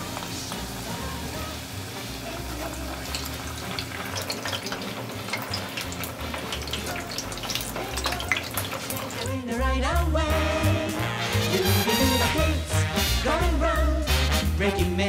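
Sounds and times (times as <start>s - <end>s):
deep-frying oil sizzling and crackling: 0.0s - 15.0s.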